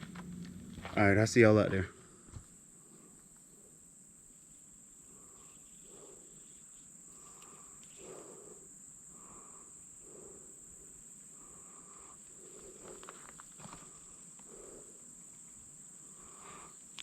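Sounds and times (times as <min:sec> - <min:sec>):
crickets droning: 0:00.0 - 0:17.0.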